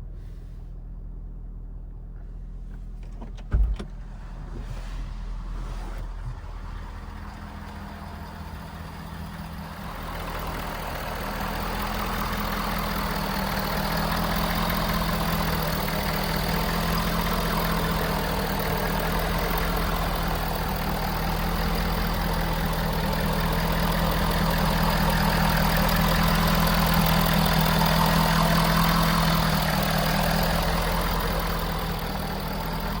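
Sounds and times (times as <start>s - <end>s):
diesel truck engine idling: 5.2s - 33.0s.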